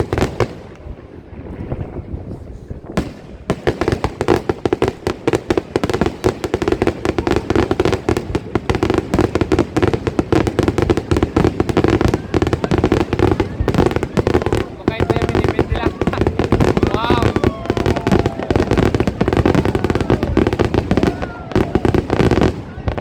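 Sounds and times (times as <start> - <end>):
fireworks bangs and pops: 0.0 - 23.0.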